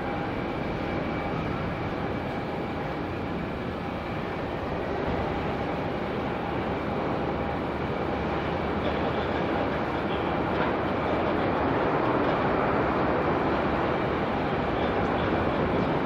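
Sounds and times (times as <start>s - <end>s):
jet engines rumbling: 0.0s - 16.0s
wind on microphone: 0.0s - 16.0s.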